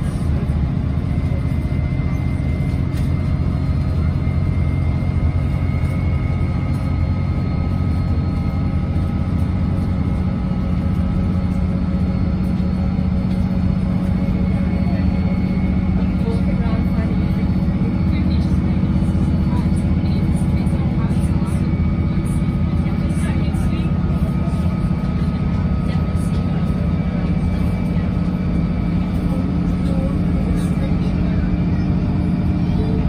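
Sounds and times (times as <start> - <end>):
train diesel engine drone: 0.0 - 33.0.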